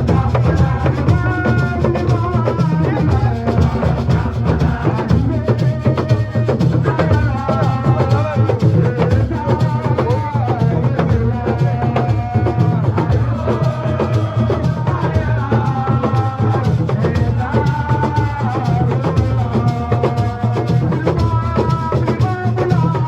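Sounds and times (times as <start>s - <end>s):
fast dense drumming: 0.0s - 23.0s.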